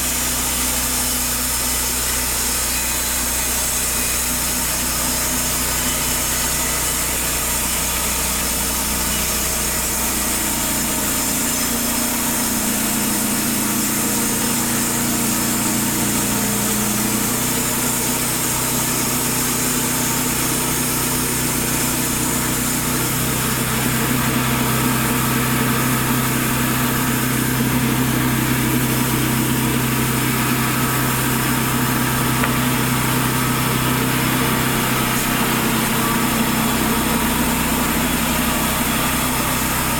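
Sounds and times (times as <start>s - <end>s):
sawmill petrol engine running: 0.0s - 39.9s.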